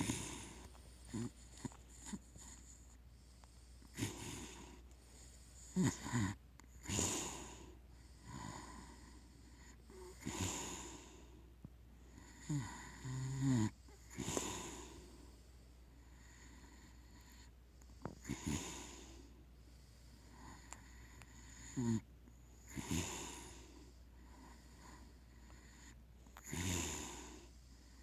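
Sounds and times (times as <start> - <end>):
pig snoring: 0.0 - 11.4, 12.1 - 15.4, 16.0 - 28.0.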